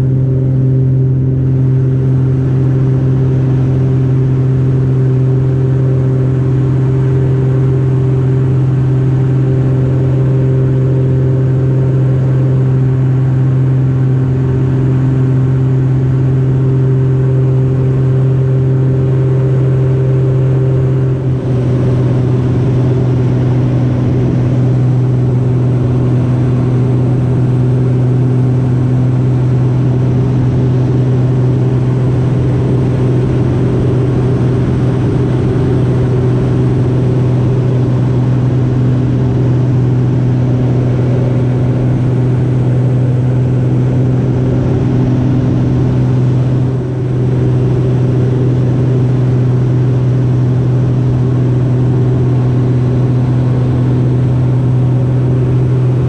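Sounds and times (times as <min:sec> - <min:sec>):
propeller plane engine running: 0:00.0 - 0:56.0.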